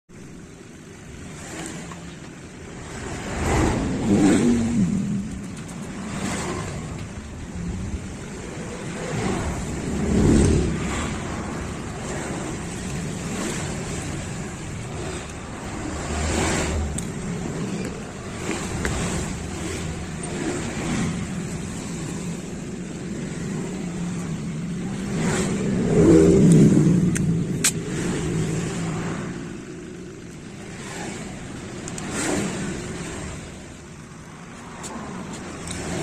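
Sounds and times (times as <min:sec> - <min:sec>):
steady traffic noise: 0:00.0 - 0:36.0
passing car engines: 0:00.1 - 0:36.0.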